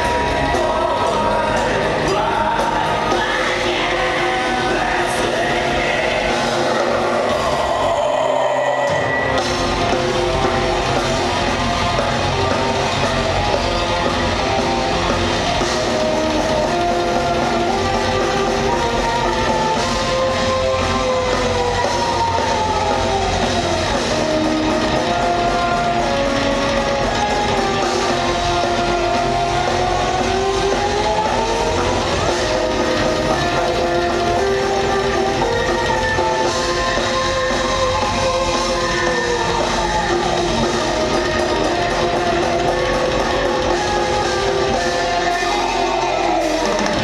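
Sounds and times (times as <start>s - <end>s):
live rock band playing: 0.0s - 47.0s
sliding lead guitar melody: 8.9s - 47.0s.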